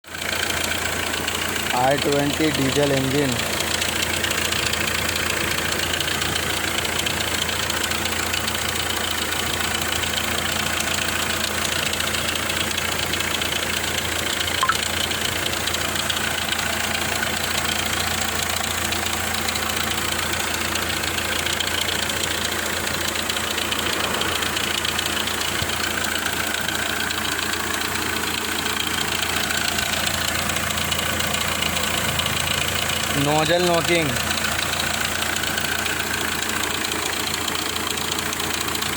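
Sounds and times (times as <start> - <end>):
diesel engine idling with knocking: 0.0 - 38.9.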